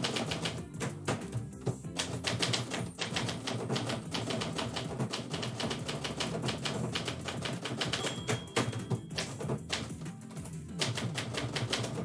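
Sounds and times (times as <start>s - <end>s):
typewriter key strikes: 0.0s - 12.0s.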